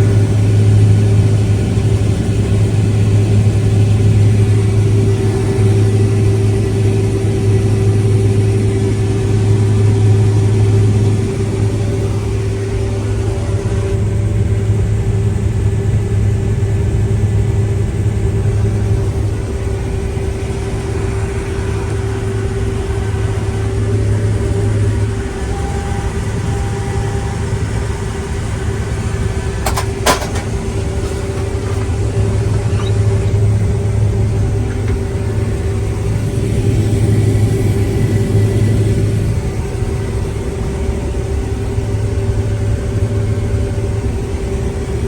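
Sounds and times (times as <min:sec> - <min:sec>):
farm machine engine droning: 0:00.0 - 0:45.0.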